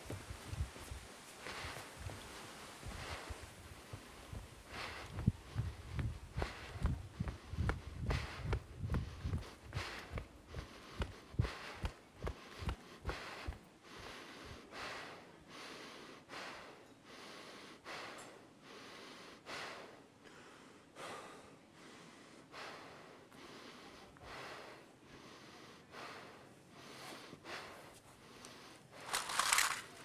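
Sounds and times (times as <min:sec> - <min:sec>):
person breathing hard: 0:01.4 - 0:30.0.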